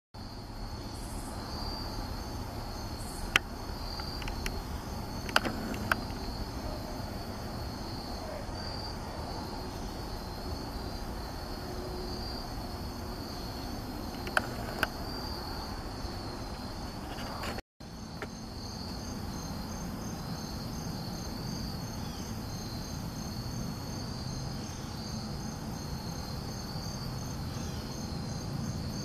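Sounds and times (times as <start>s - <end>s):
insects trilling: 0.2s - 29.0s.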